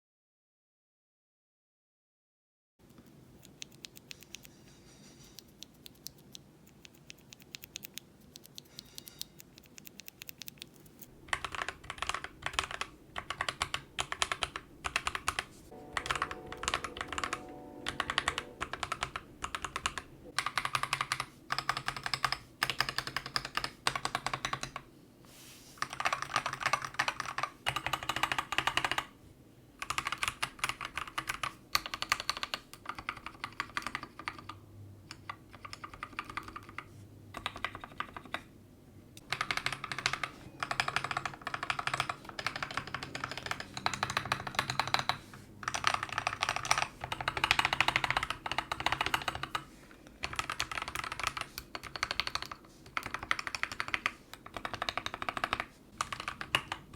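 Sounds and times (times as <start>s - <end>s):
typing on mechanical keyboard: 5.3s - 24.8s, 25.8s - 29.1s, 29.8s - 38.5s, 39.2s - 56.9s.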